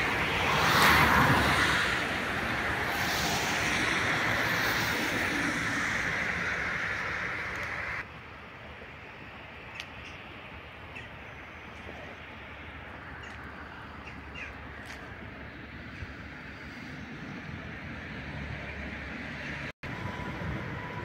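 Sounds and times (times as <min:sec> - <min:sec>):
outdoor ambience: 0:00.0 - 0:21.0
steady rush of noise: 0:00.0 - 0:21.0.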